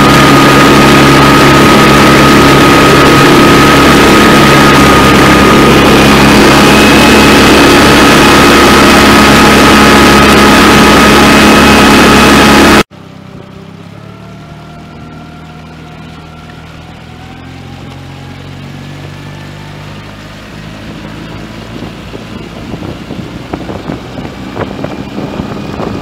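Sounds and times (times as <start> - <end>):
water spray and rushing wake: 0.0 - 12.9, 13.6 - 26.0
outboard motor running: 0.0 - 26.0.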